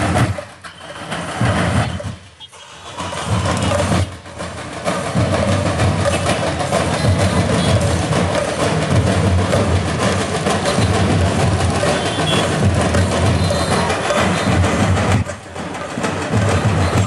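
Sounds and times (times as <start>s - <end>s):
drums beating rapidly: 0.0s - 17.0s.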